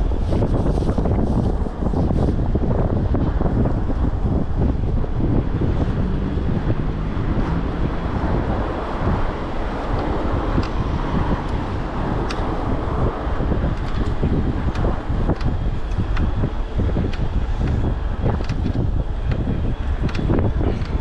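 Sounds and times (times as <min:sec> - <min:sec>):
road traffic: 0:00.0 - 0:21.0
wind buffeting microphone: 0:00.0 - 0:21.0.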